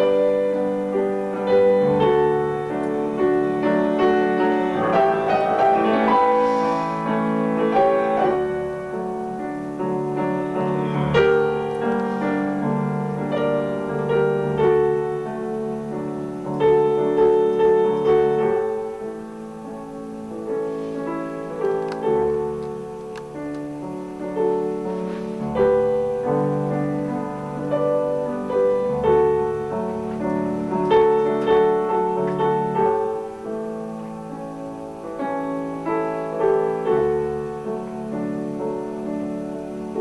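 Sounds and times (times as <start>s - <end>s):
solo piano piece: 0.0s - 40.0s.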